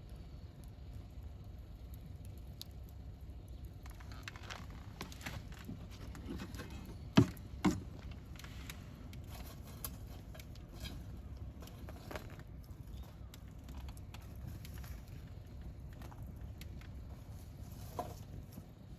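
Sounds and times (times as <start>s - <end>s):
low rumble of flame: 0.0s - 18.9s
wood fire crackling: 0.0s - 18.9s.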